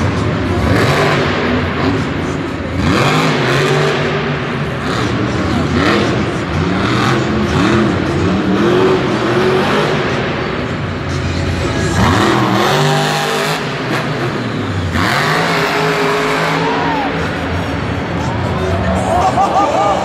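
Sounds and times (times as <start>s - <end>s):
monster truck engines revving: 0.0s - 20.0s.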